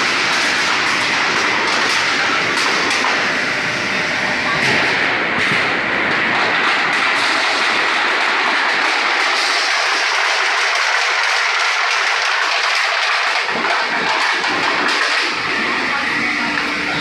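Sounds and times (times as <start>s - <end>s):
roll forming machine running: 0.0s - 17.0s.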